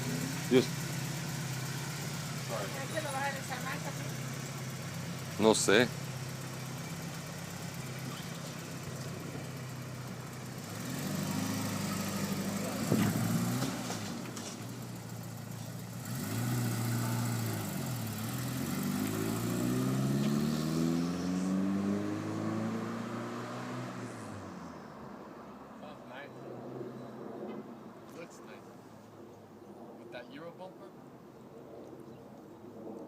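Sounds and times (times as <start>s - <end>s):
car engine idling and revving: 0.0s - 29.3s.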